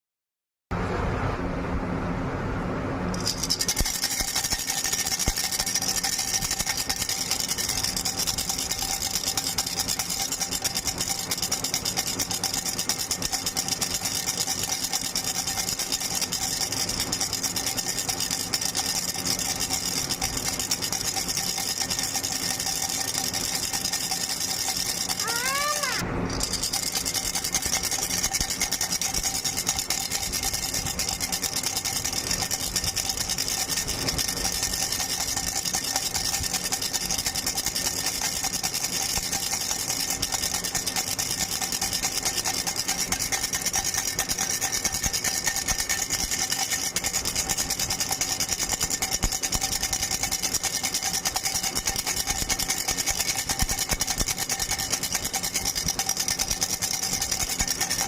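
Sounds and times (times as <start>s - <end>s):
rattle shaken rapidly: 3.0s - 58.0s.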